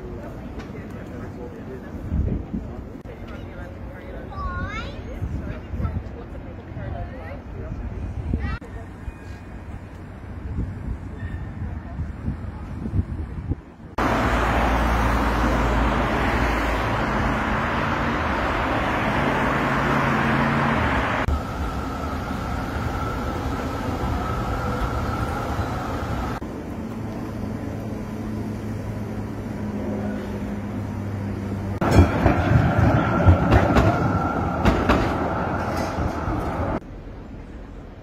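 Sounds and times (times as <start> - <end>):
passing road traffic: 7.2 - 38.0.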